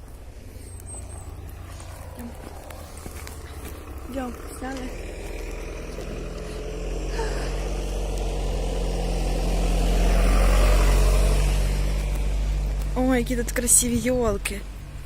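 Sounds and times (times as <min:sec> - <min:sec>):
engine passing close by: 0:00.0 - 0:15.0.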